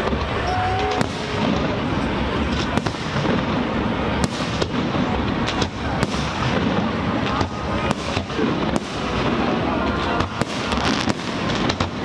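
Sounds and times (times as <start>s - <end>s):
firework bangs: 0.0s - 12.0s
rumble and hiss of fireworks: 0.0s - 12.0s.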